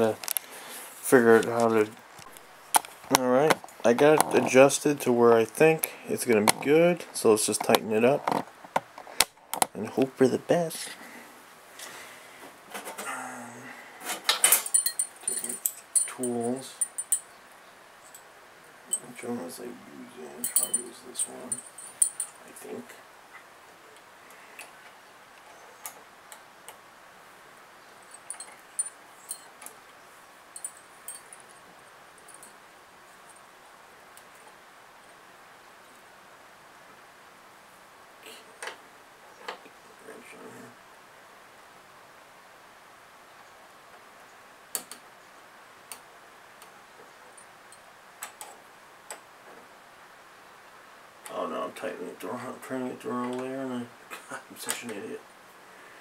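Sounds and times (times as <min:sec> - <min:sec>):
steady low hiss: 0:00.0 - 0:56.0.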